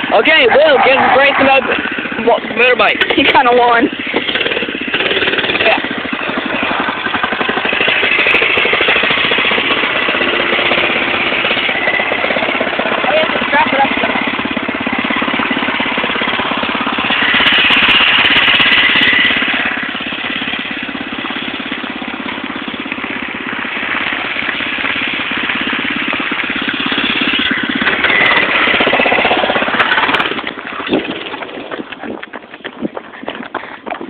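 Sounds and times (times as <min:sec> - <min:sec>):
small scooter engine running: 0:00.0 - 0:34.0.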